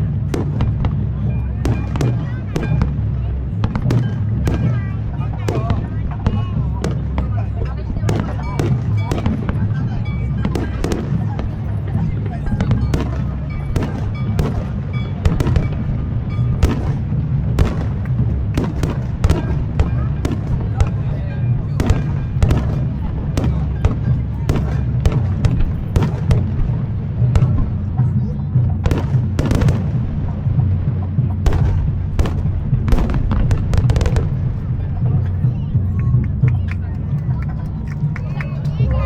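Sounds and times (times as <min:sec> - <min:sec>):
fireworks bangs: 0:00.0 - 0:37.0
deep rumble of explosions: 0:00.0 - 0:39.0.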